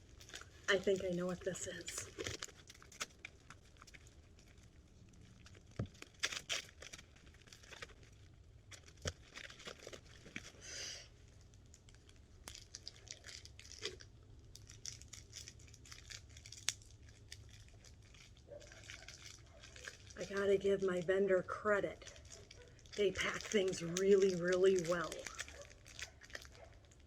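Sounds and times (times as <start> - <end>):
packing material tearing: 0.0 - 20.5, 22.0 - 27.0
packing material crinkling: 0.0 - 27.0.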